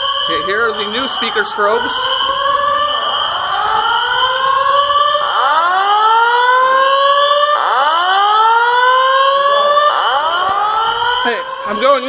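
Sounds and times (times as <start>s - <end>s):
fire alarm slow whoop: 0.0s - 12.0s
steady high alarm tone: 0.0s - 12.0s.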